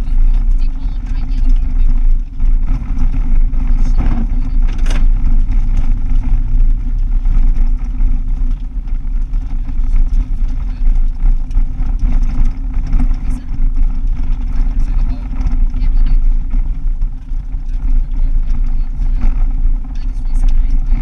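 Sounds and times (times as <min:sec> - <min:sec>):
car engine and tyre rumble: 0:00.0 - 0:21.0
sharp clatter: 0:00.0 - 0:21.0.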